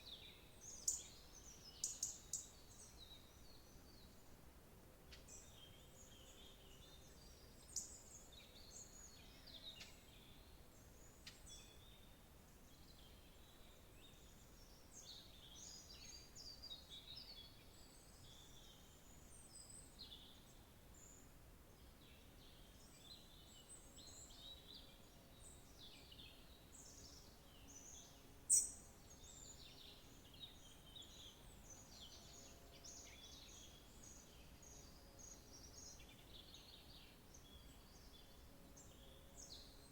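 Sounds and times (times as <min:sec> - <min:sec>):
small birds chirping and trilling: 0:00.0 - 0:04.2, 0:05.1 - 0:39.9.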